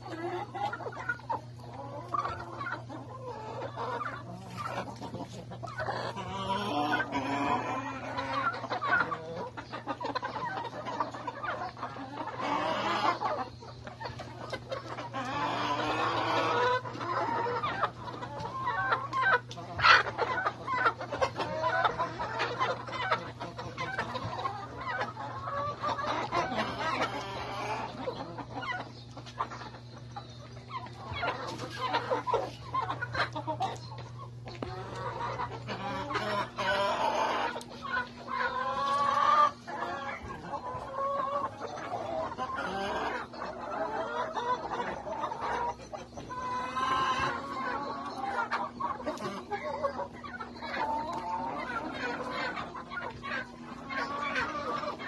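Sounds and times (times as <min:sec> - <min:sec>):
hens clucking: 0:00.0 - 0:55.0.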